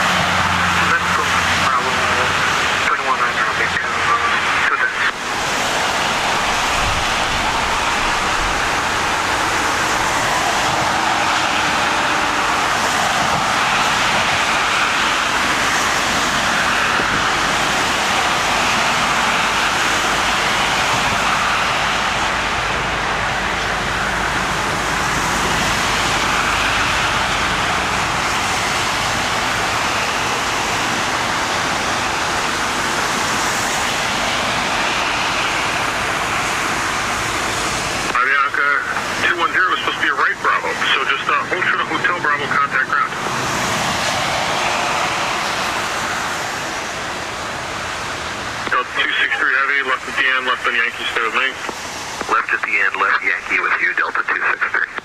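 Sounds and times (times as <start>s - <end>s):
jet engines and airflow rushing: 0.0s - 55.0s.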